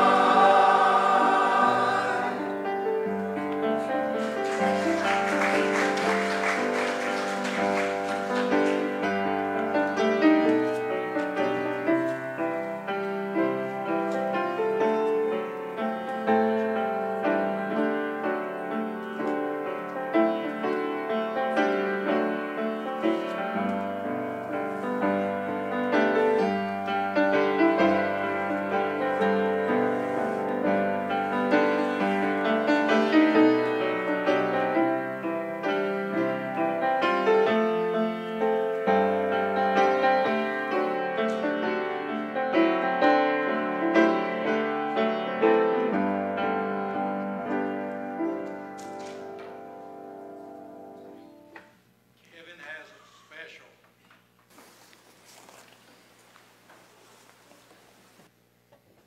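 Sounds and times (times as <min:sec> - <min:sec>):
slow piano chords: 0:00.0 - 0:51.8.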